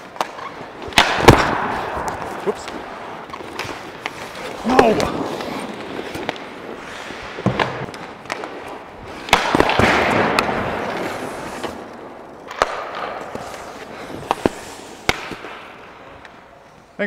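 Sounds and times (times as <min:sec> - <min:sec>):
hockey sticks and pucks clacking: 0:00.0 - 0:17.0
skate blades scraping ice: 0:00.0 - 0:17.0.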